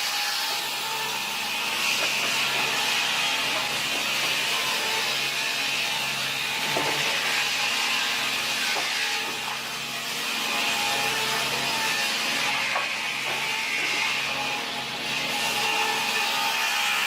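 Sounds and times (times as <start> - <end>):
saw cutting wood: 0.0 - 17.0.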